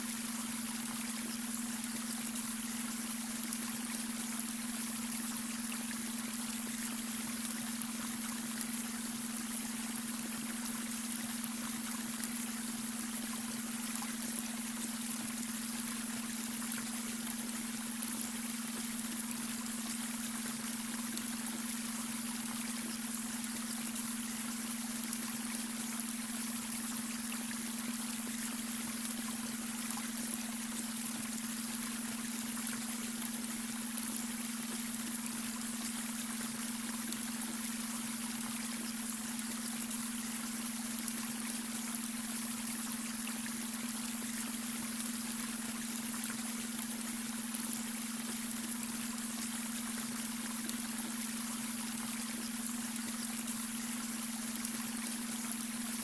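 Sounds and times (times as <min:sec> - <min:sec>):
brook water trickling over stones: 0:00.0 - 0:56.0.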